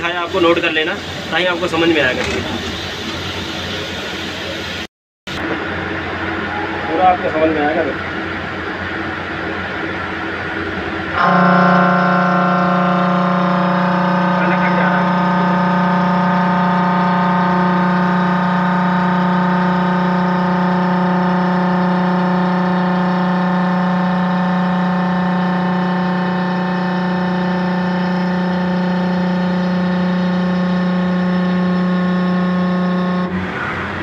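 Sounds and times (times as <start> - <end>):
lathe spindle whine: 5.3 - 34.0.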